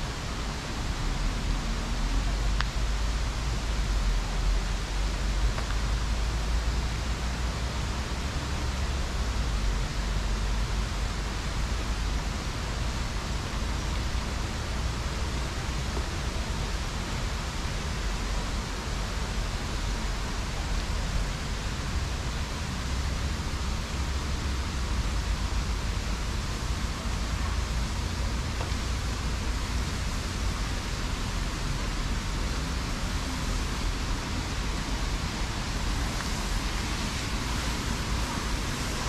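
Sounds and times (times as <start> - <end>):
mountain stream rushing: 0.0 - 39.0.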